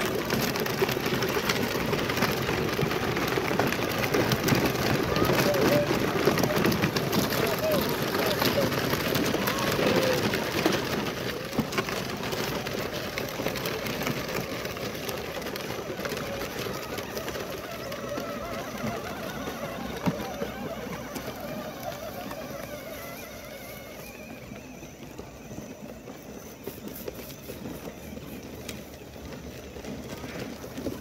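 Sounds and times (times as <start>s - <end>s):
plastic wheels rattling over gravel: 0.0s - 31.0s.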